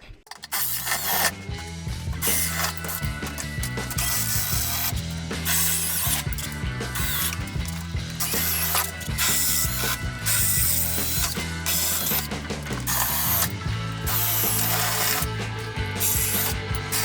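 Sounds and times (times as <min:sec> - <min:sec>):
ratchet wrench clicking: 0:00.3 - 0:17.0.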